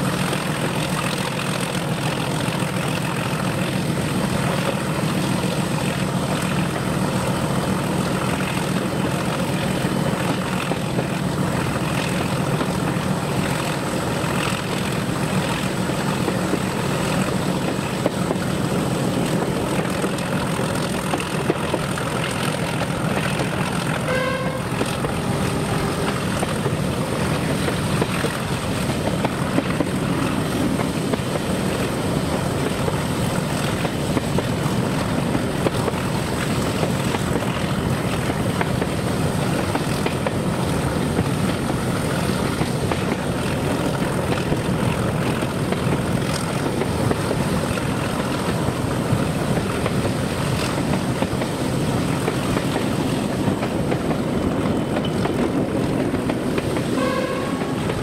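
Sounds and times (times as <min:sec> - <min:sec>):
diesel locomotive rumbling: 0:00.0 - 0:58.0.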